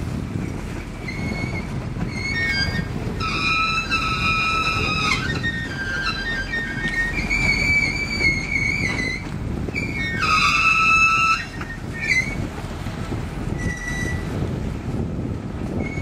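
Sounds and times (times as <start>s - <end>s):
train wheels rumbling on rails: 0.0s - 16.0s
wheel-flange squeals: 0.4s - 12.6s, 13.4s - 14.5s, 15.7s - 16.0s.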